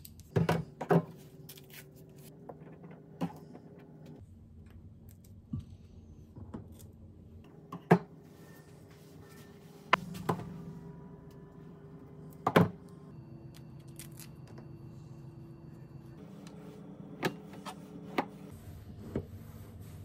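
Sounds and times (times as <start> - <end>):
steady low hum: 0.2 - 20.0.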